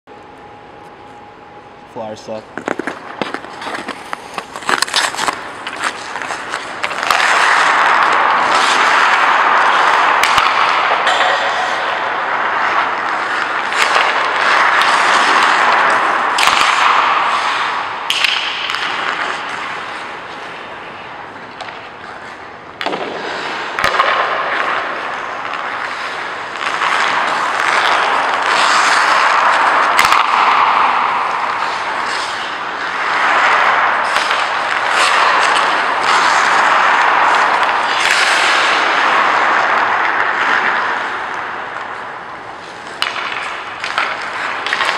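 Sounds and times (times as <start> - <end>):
skate blades scraping ice: 2.0 - 44.9
stick and puck taps: 2.5 - 12.1, 12.7 - 17.2, 18.1 - 19.6, 21.4 - 23.2, 23.8 - 25.8, 26.5 - 44.9.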